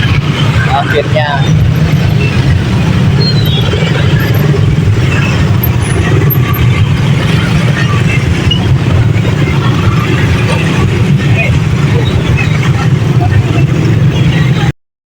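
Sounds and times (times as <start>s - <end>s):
traffic engines rumbling: 0.0s - 14.8s.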